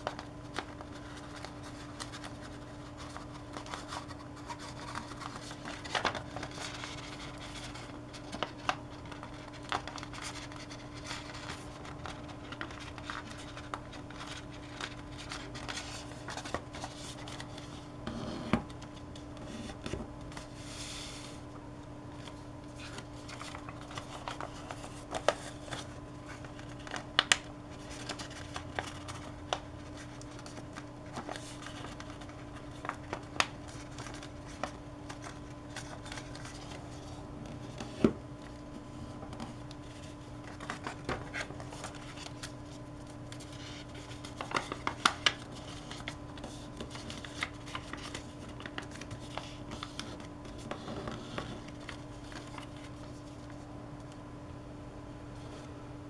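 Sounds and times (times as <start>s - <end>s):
paper rustling and crinkling: 0.0s - 17.9s, 22.1s - 53.7s
faint steady hum: 0.0s - 56.0s.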